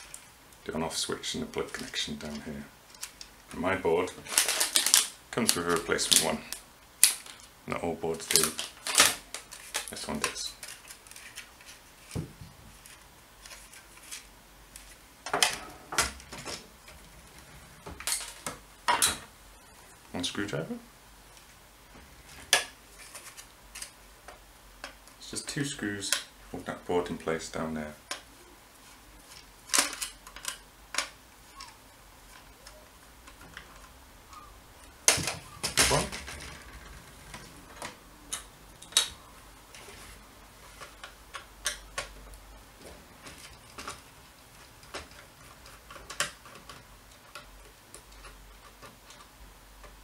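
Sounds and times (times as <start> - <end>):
plastic frame handling noise: 1.3 - 7.6, 8.2 - 19.3, 21.3 - 25.2, 27.9 - 50.0.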